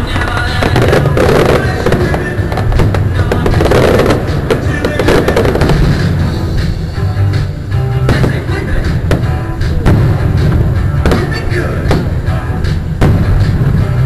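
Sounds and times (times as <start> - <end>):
fireworks bangs and crackles: 0.0 - 6.9, 8.0 - 14.0
music playing: 0.0 - 14.0.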